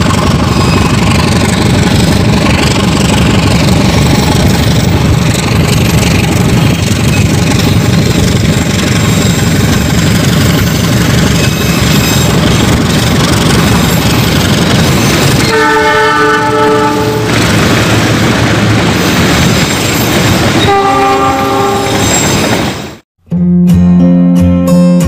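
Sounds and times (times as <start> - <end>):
diesel locomotive engine running: 0.0 - 23.0.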